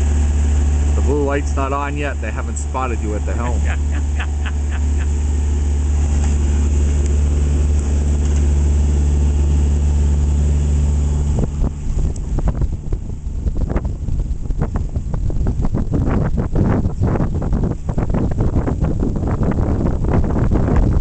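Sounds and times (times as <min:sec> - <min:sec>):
boat engine droning: 0:00.0 - 0:21.0
wind rumbling on microphone: 0:00.0 - 0:21.0.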